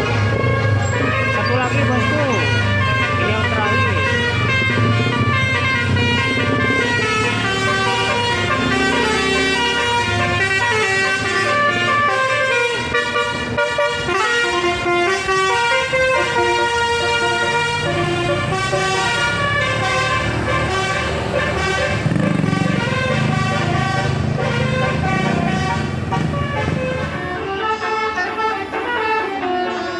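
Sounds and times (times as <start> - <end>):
bus engine rumbling: 0.0 - 29.9
multi-tone bus horn melody: 0.0 - 29.9.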